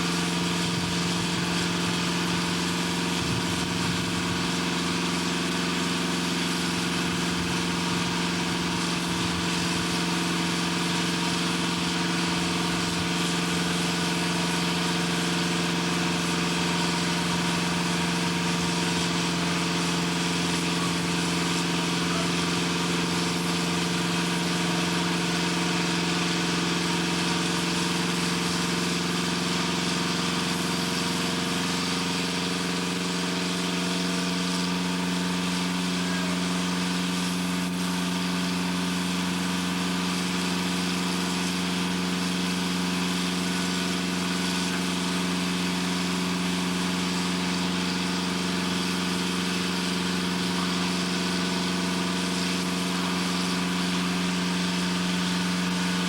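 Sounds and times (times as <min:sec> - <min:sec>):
heavy machinery droning: 0:00.0 - 0:56.0.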